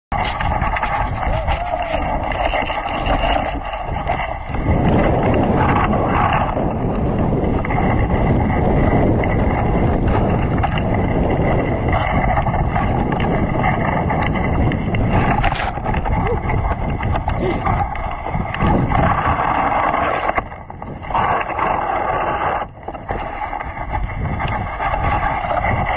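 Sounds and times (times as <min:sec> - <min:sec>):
sled frame rattling: 0:00.1 - 0:25.9
sled runners rushing over snow: 0:00.1 - 0:25.9
wind on microphone: 0:00.1 - 0:25.9.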